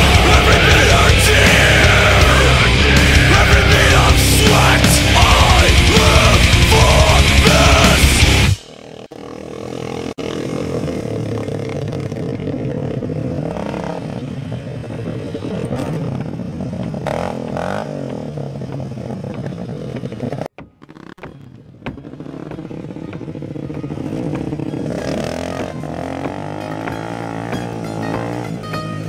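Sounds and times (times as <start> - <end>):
quad engines revving: 0.0 - 29.0.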